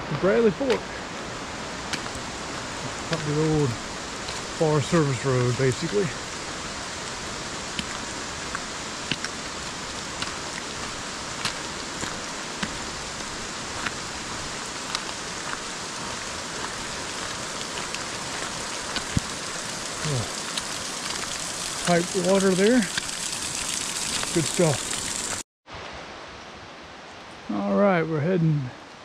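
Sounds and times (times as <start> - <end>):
rain falling on forest: 0.0 - 29.0.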